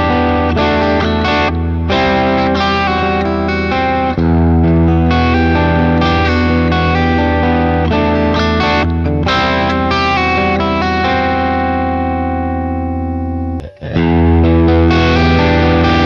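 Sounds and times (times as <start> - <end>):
electric guitar through an amp: 0.0 - 16.0.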